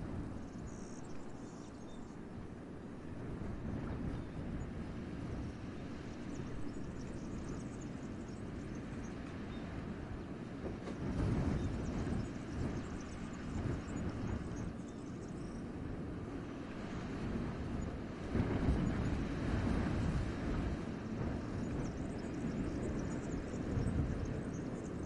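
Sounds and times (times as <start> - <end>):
wind gusting through forest: 0.0 - 25.0.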